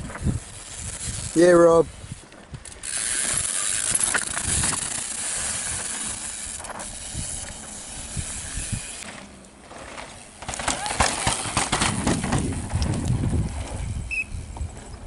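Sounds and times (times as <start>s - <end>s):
bike knocking and rattling: 0.0s - 15.0s
bike tyres skidding on dirt: 0.0s - 15.0s.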